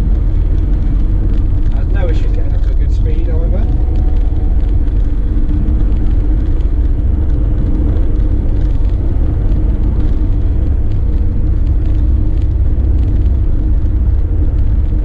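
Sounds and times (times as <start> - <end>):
diesel engine drone: 0.0 - 15.0
road and tyre rumble: 0.0 - 15.0.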